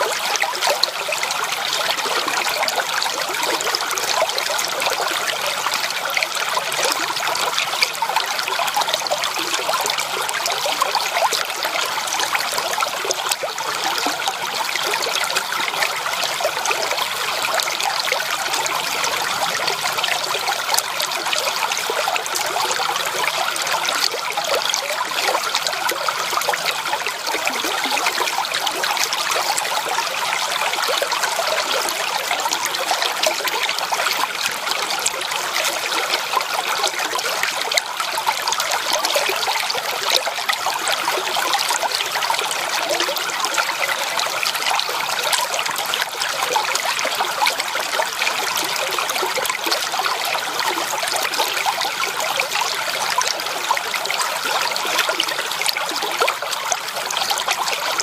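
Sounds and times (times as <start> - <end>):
creek water trickling over stones: 0.0 - 58.0.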